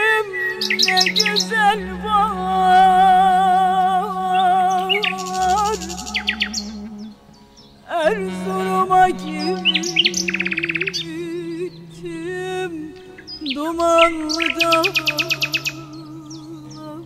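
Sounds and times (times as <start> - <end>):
birds chirping and trilling: 0.0 - 17.0
instrumental background music: 0.0 - 17.0.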